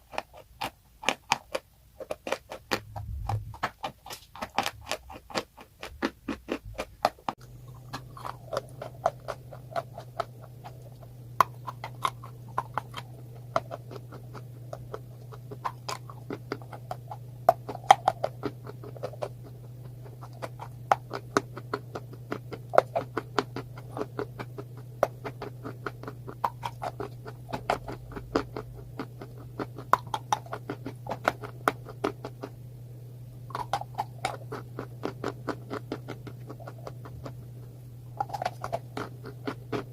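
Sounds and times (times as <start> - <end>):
person chewing crisp food: 0.0 - 32.7, 33.3 - 39.9
low hum: 2.7 - 3.8, 6.7 - 39.9.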